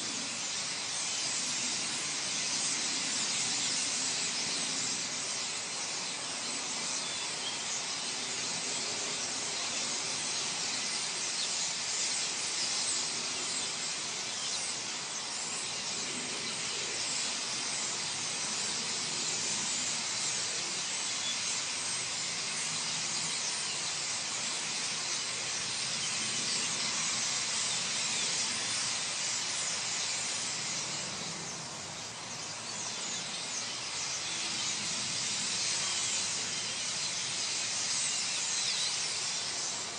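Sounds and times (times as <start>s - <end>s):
starling flock chattering: 0.0s - 39.9s.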